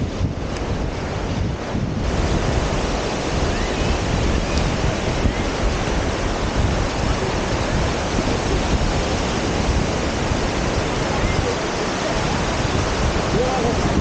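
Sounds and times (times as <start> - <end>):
surf breaking on sand: 0.0 - 14.0
wind noise on microphone: 0.0 - 14.0.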